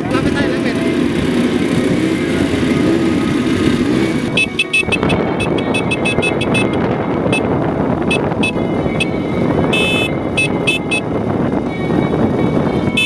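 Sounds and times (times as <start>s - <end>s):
quad bike engines: 0.0s - 13.0s.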